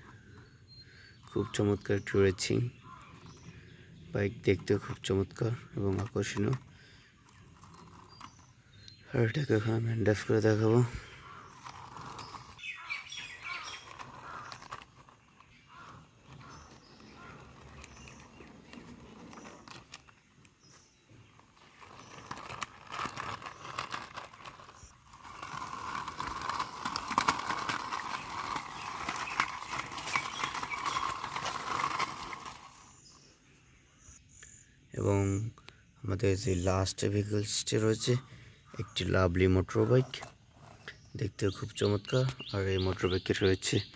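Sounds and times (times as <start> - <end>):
plastic wheels rolling on brick: 0.0 - 33.3, 39.6 - 43.9.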